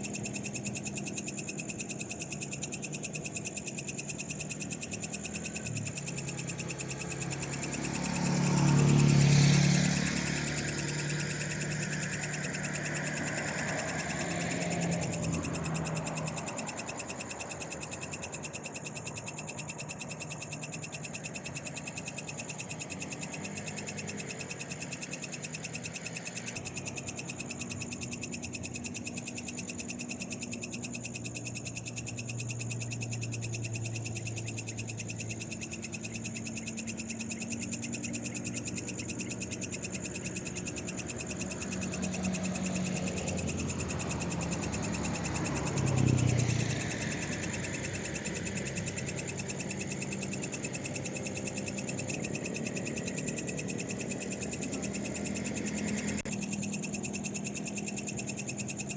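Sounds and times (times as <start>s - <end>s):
frogs calling: 0.0s - 58.9s.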